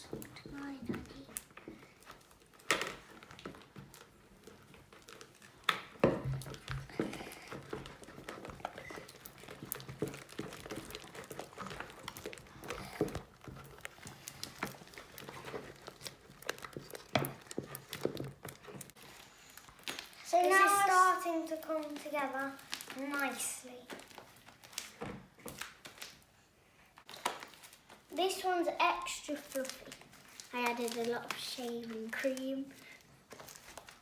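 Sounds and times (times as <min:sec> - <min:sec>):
slime squelching and crackling: 0:00.0 - 0:34.0.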